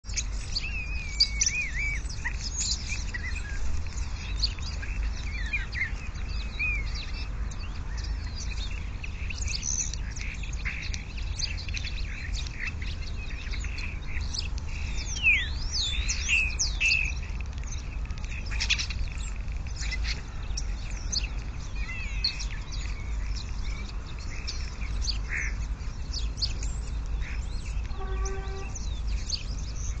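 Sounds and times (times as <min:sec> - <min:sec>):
birds chirping and whistling: 0:00.0 - 0:30.0.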